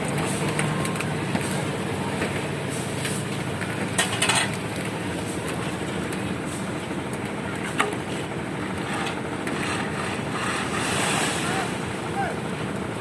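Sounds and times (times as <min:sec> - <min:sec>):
concrete mixer running: 0:00.0 - 0:13.0.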